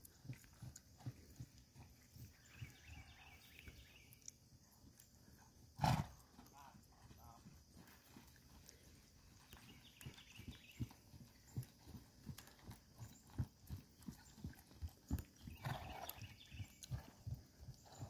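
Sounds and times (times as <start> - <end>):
horse hoofbeats trotting on grass: 0.0 - 18.0.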